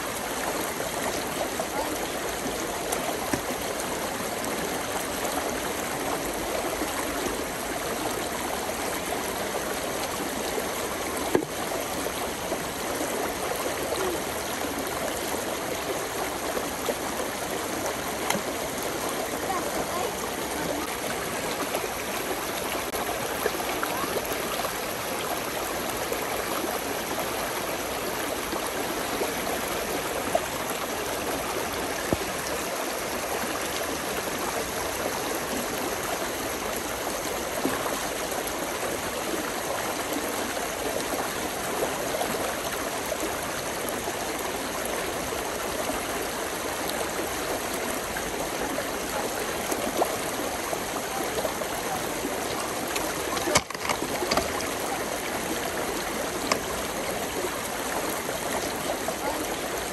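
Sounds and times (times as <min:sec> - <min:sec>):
stream running and gurgling: 0:00.0 - 0:59.9
water splashes: 0:00.0 - 0:59.9.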